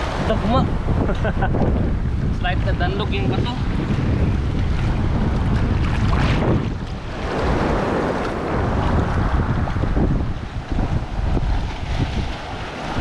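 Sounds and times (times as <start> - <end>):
waves washing up stony beach: 0.0 - 13.0
wind buffeting microphone: 0.0 - 13.0.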